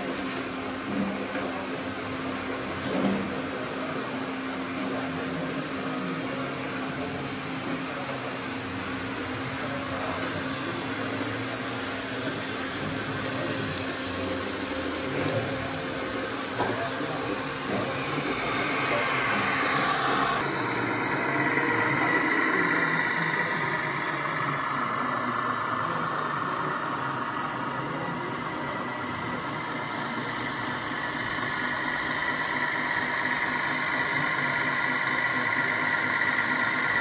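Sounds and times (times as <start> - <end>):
high-pitched motor whine: 0.9 - 37.0
electric motors whirring: 4.8 - 37.0.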